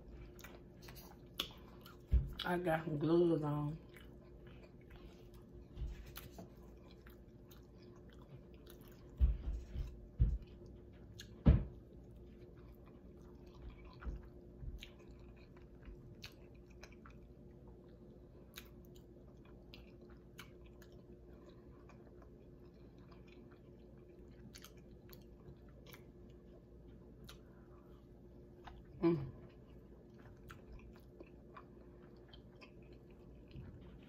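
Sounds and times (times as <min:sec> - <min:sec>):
faint steady hum: 0:00.0 - 0:34.0
chewing and biting: 0:00.1 - 0:02.4, 0:03.8 - 0:34.0.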